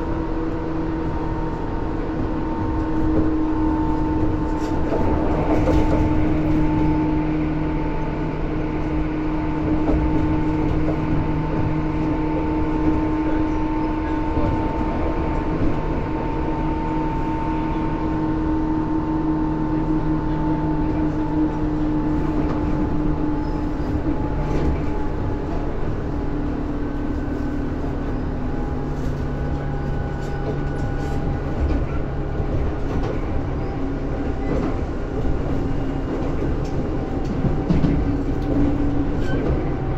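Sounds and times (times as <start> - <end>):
electric train rumbling: 0.0 - 39.9.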